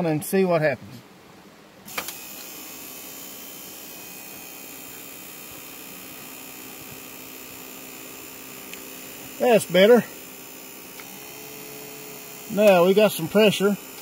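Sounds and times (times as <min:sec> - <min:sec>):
electric fuel pump humming: 0:01.8 - 0:14.0
pump whining tones: 0:01.8 - 0:14.0.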